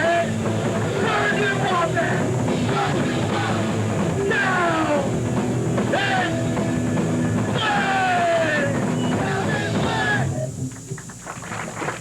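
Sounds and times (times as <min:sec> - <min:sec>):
punk band playing live: 0:00.0 - 0:10.7.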